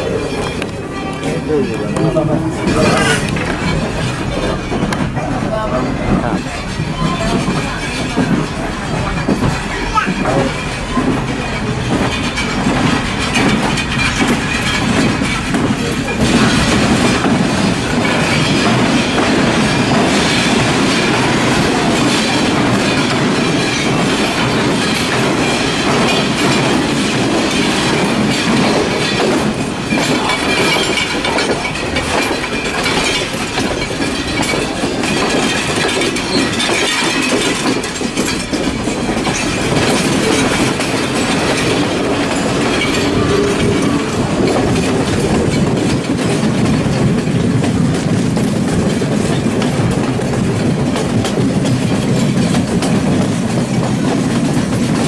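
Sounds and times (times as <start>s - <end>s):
train rumble and rattle: 0.0s - 55.0s
wheels clacking over rail joints: 0.0s - 55.0s.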